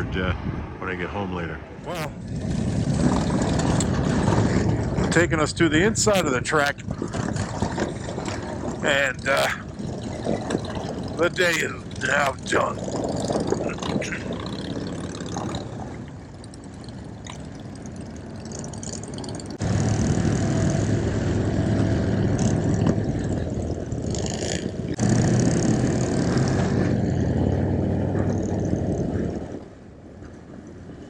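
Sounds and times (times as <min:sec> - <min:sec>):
motorcycle engine rumbling: 0:01.8 - 0:29.4.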